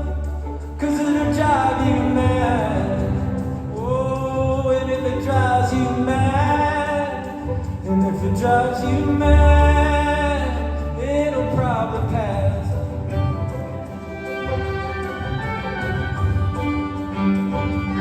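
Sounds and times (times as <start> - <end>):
band and strings playing: 0.0 - 18.0
deep bass note: 0.0 - 18.0
wordless melody line: 0.0 - 18.0.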